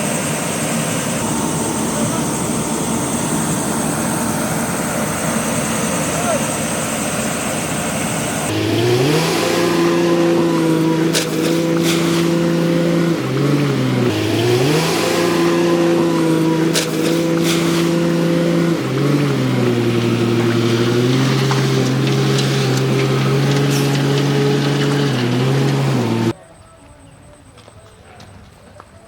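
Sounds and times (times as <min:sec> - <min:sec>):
diesel engine revving: 0:00.0 - 0:26.4.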